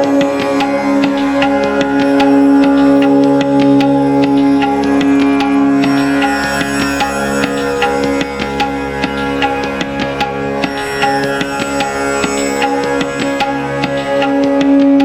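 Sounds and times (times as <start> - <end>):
hand drum strokes: 0.0 - 15.0
plucked strings: 0.0 - 15.0
sustained drone: 0.0 - 15.0.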